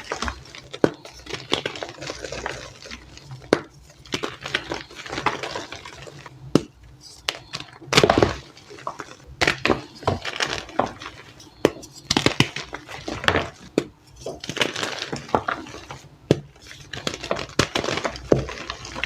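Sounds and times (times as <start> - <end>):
chalk blocks crunching and cracking: 0.0 - 19.0.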